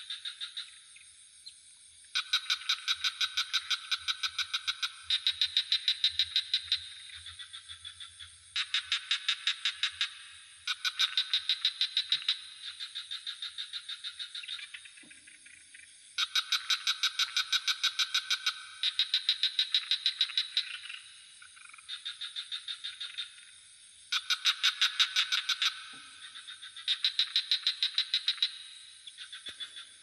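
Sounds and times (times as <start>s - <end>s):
frogs trilling: 0.0s - 30.0s.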